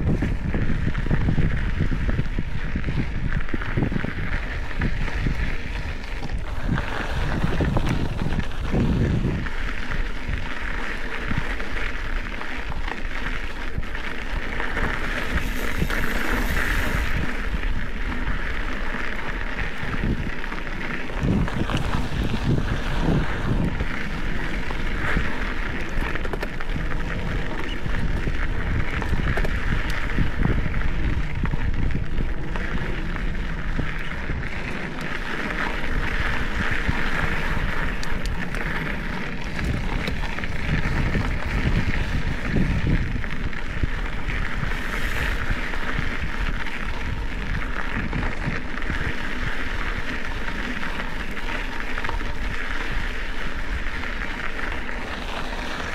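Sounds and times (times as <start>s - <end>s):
bike tyres rolling on dirt: 0.0s - 55.9s
wind buffeting microphone: 0.0s - 55.9s
grit ticking: 1.1s - 55.9s.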